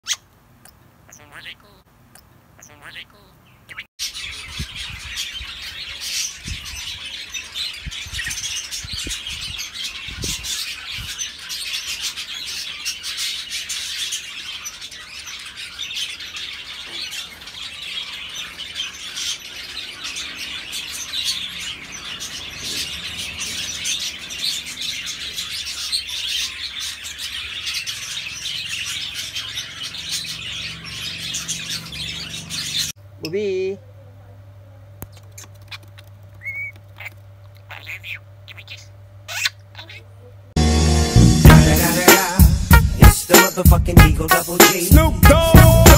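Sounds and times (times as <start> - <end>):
budgerigars chirping and warbling: 0.0 - 33.0, 35.3 - 40.3.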